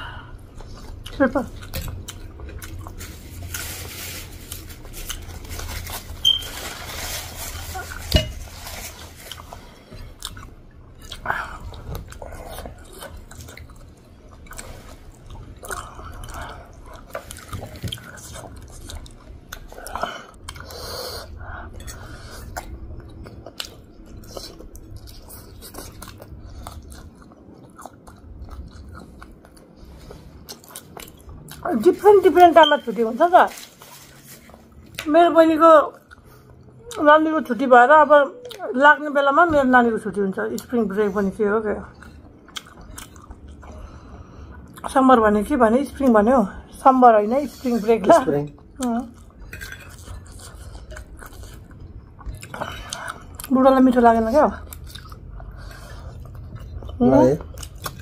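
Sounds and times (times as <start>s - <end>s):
people chewing and slurping noodles: 0.0s - 35.0s, 35.7s - 37.2s, 38.4s - 58.0s.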